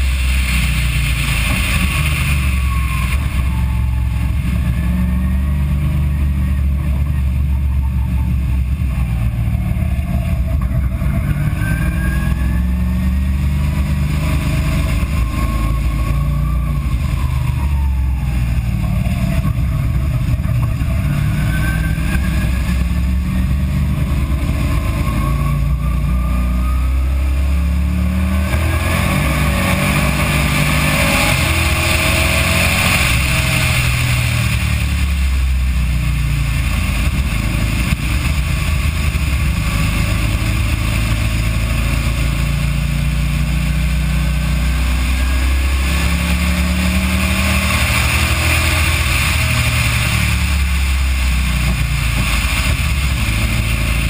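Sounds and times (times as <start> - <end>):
car engine accelerating: 0.0 - 54.0
wind and road noise: 0.0 - 54.0.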